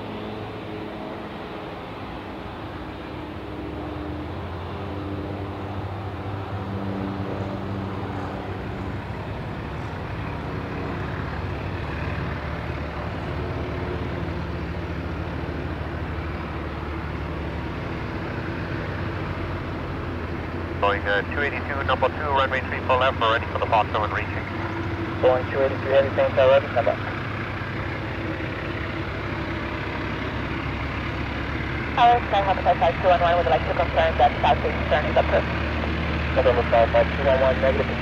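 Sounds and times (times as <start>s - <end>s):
jet engines taxiing: 0.0s - 38.0s.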